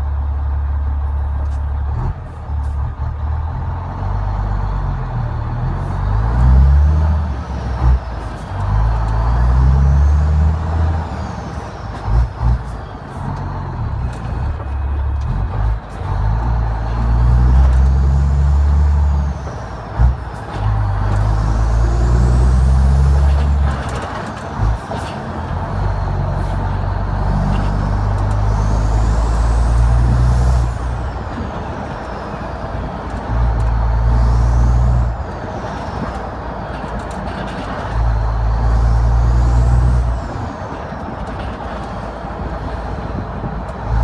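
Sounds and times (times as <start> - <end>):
diesel truck engine under load: 0.0 - 44.0.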